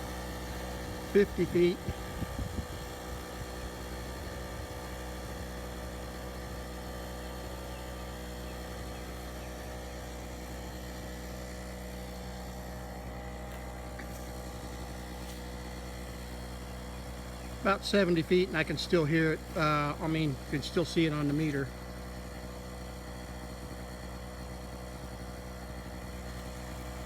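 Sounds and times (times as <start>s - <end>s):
distant generator humming: 0.0s - 27.0s.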